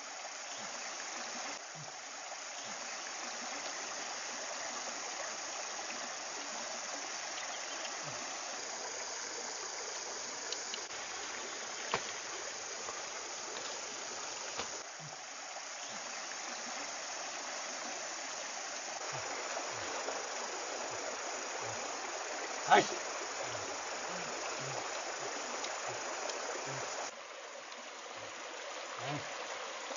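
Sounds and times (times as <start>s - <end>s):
stream running over rocks: 0.0s - 29.9s.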